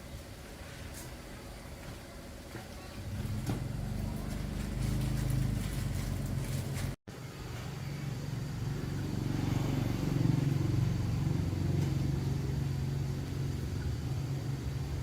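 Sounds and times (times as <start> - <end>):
engine running: 2.5 - 15.0.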